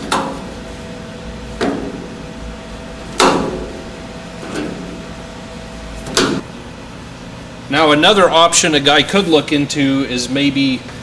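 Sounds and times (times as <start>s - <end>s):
steady shop hum: 0.0s - 11.0s.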